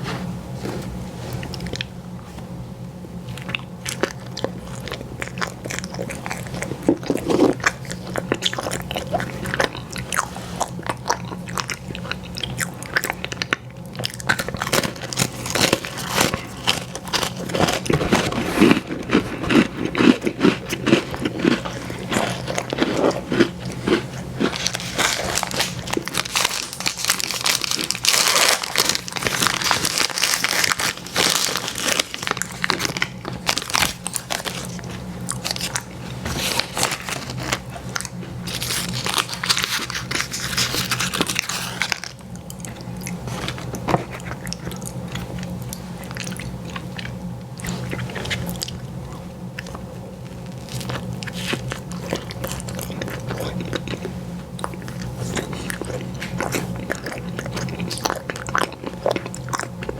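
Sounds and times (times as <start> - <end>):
biting and chewing ice cream: 1.4 - 59.9.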